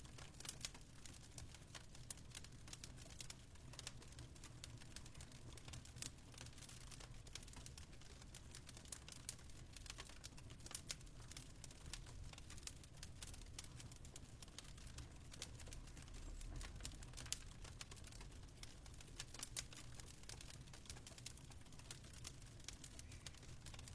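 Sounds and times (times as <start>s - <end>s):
fireplace crackling: 0.0s - 23.9s.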